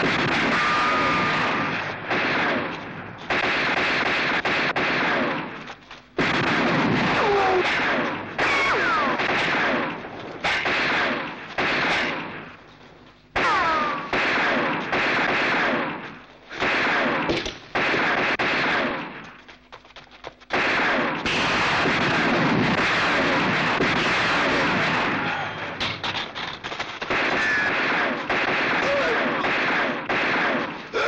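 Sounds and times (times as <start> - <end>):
rapid gunfire bursts: 0.0 - 12.6, 13.4 - 19.5, 20.4 - 25.8, 26.5 - 31.0.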